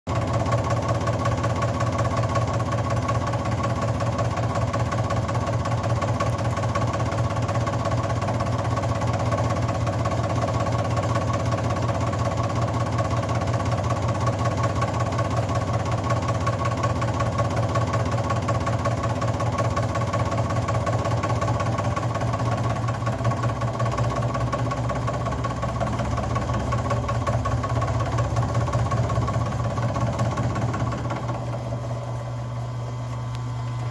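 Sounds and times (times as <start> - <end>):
machine motor humming: 0.1 - 33.9.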